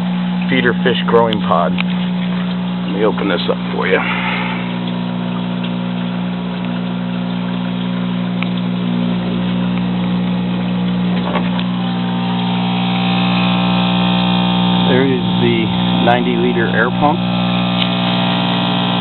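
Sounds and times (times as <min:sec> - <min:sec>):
air pump humming: 0:00.0 - 0:19.0.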